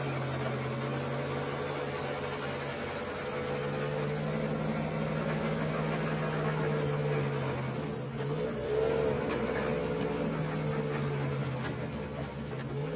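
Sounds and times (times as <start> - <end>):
diesel truck engine running hard: 0.0 - 12.9.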